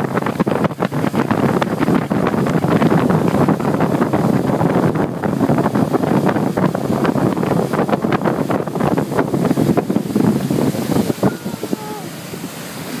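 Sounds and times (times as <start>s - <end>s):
water rushing from boat wake: 0.0s - 13.0s
wind buffeting microphone: 0.0s - 13.0s.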